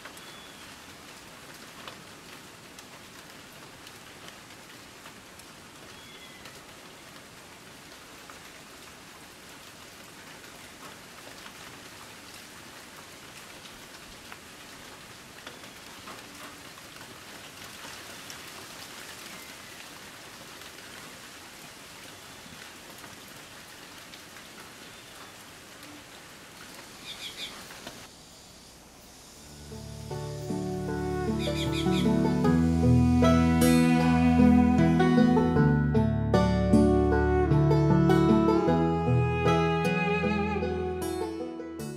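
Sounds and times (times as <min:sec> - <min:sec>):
rain falling on leaves: 0:00.0 - 0:35.6, 0:36.9 - 0:41.2.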